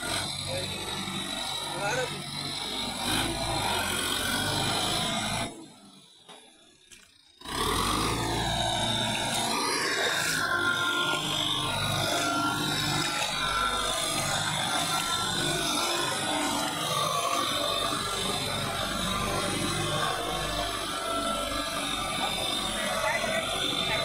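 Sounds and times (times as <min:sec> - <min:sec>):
rotavator churning through mud: 0:00.0 - 0:05.6, 0:07.4 - 0:24.0
tractor diesel engine running: 0:00.0 - 0:06.0, 0:06.9 - 0:24.0.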